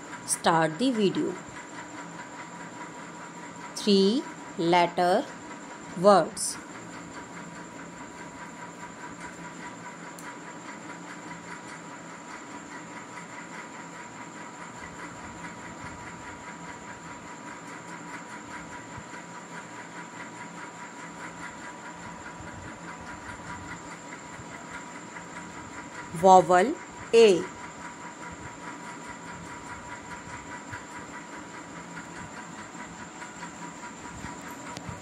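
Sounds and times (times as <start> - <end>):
background hiss and hum: 0.0 - 35.0.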